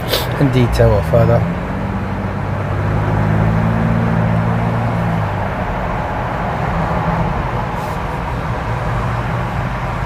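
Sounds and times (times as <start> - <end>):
road noise inside car: 0.0 - 10.0.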